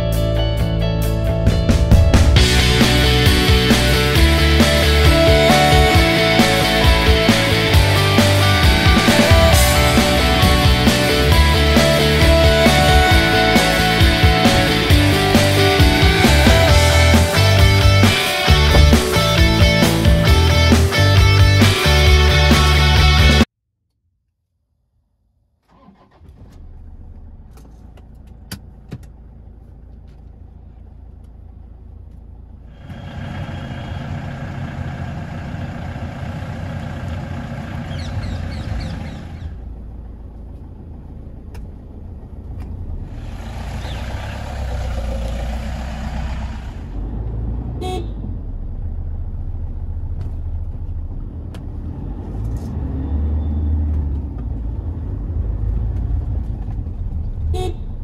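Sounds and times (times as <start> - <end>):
diesel engine starting and idling: 0.0 - 23.5, 25.6 - 58.0.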